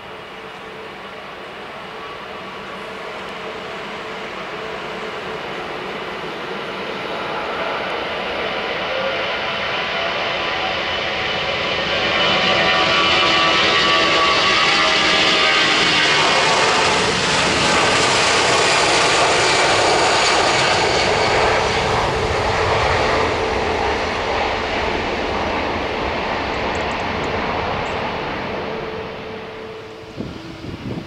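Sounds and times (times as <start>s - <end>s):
jet airliner engines at takeoff: 0.0s - 31.0s
whining jet engine tones: 0.0s - 31.0s.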